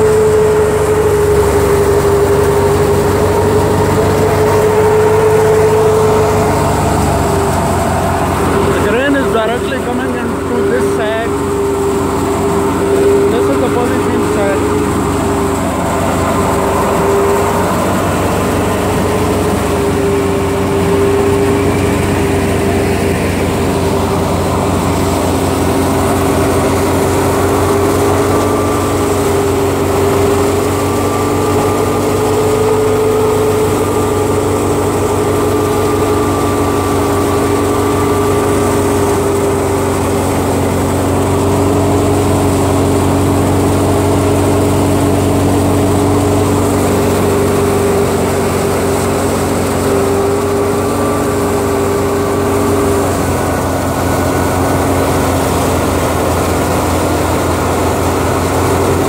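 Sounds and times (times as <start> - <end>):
thresher machine drone: 0.0 - 59.0.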